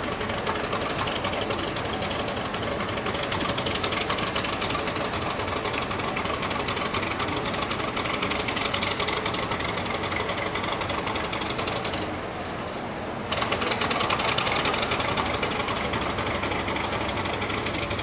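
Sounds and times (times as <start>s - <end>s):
diesel locomotive engine clattering: 0.0s - 18.0s.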